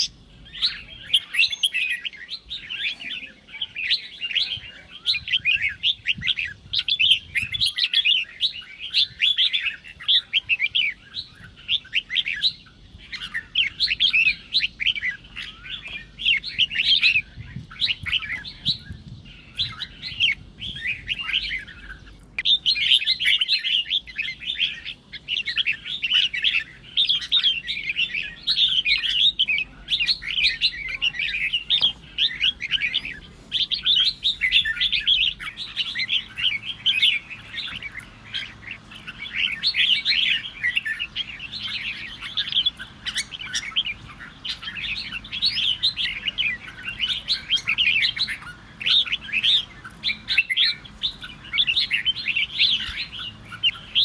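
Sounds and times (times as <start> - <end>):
bird singing chattering notes: 0.0 - 54.0.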